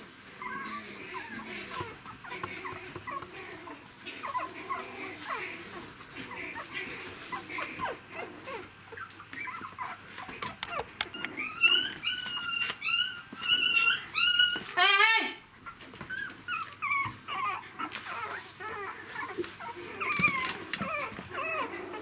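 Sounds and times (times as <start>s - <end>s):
puppies whimpering and squealing: 0.0s - 22.0s.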